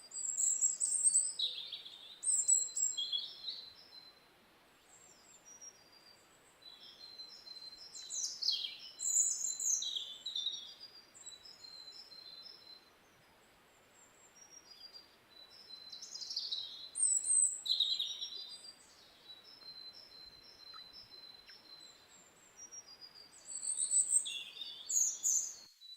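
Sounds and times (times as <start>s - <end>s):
birds singing and chirping: 0.1s - 4.0s, 4.9s - 12.9s, 14.2s - 25.9s.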